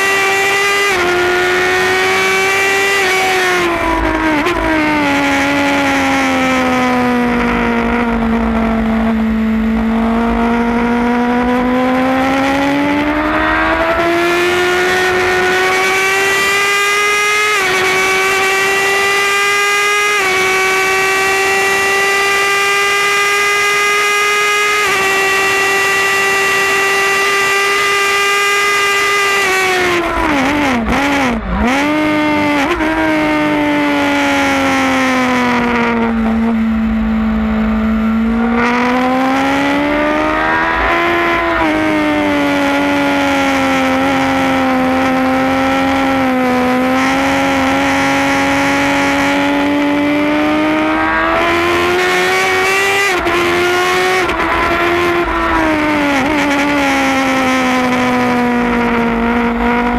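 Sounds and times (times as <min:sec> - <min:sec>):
motorcycle engine at racing revs: 0:00.0 - 0:59.9.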